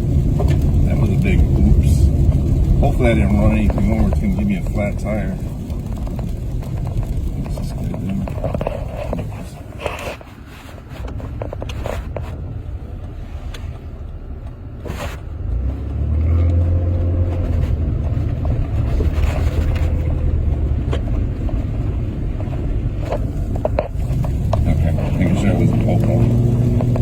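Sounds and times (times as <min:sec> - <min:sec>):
truck engine rumbling: 0:00.0 - 0:27.0.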